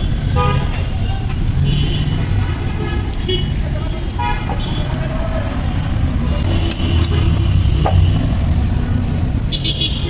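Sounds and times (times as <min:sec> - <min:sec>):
vehicle engine rumble: 0:00.0 - 0:10.0.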